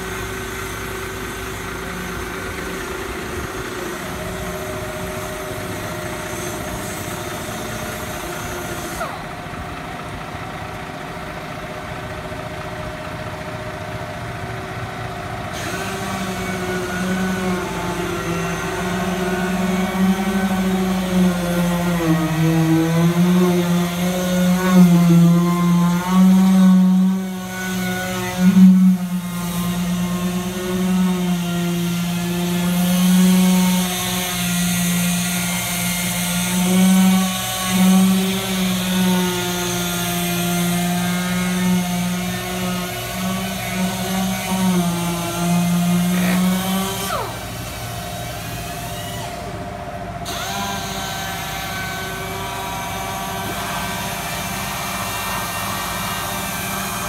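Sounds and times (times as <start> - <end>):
power sander whining: 0.0 - 9.9, 15.4 - 57.0.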